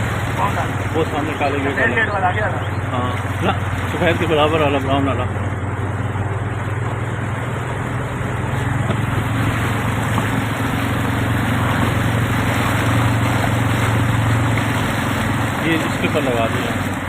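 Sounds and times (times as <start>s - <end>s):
rushing water noise: 0.0s - 17.0s
vehicle engine humming: 0.0s - 17.0s.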